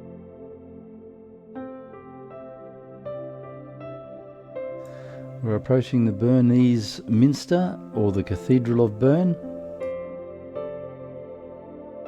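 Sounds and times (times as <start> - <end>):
soft ambient music: 0.0 - 12.0.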